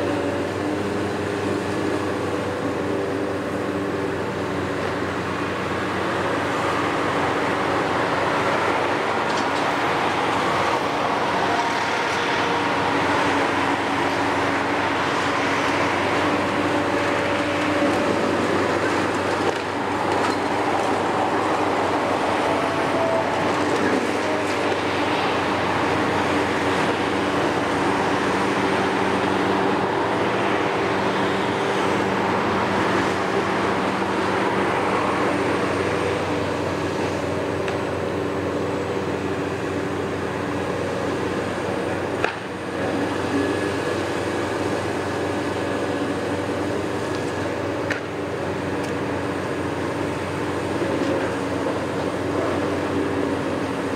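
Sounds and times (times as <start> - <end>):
excavator diesel engines: 0.0 - 53.9.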